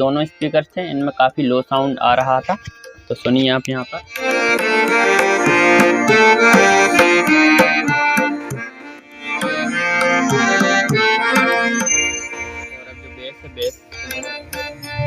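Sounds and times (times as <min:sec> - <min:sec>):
music through speakers: 0:02.2 - 0:15.0.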